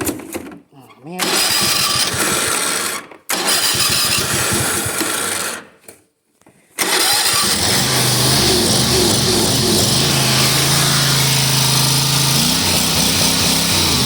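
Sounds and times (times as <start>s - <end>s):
lawn mower engine running: 1.2s - 5.6s, 6.8s - 14.0s.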